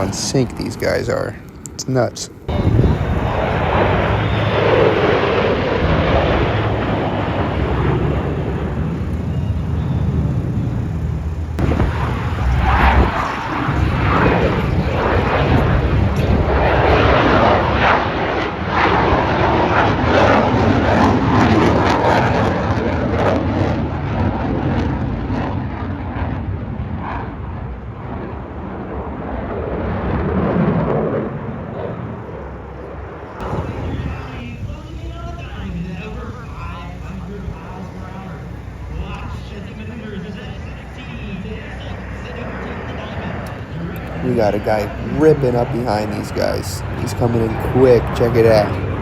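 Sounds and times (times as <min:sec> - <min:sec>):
aircraft engines passing overhead: 0:00.0 - 0:49.0.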